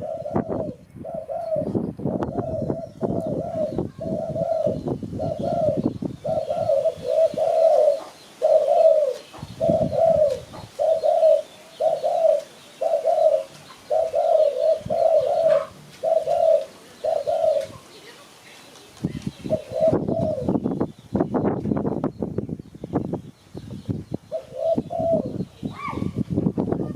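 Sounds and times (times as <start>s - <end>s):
dove cooing: 0.0s - 20.6s, 24.3s - 26.2s.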